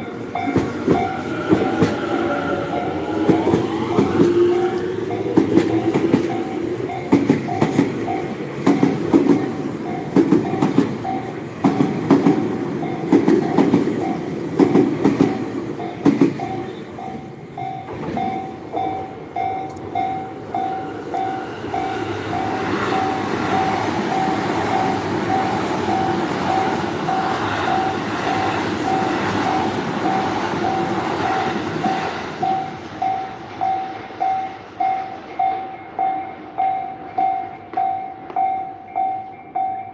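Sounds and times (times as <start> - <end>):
level-crossing warning bell: 0.0 - 39.9
train rumble: 0.0 - 39.9
train wheels clacking: 0.0 - 39.9.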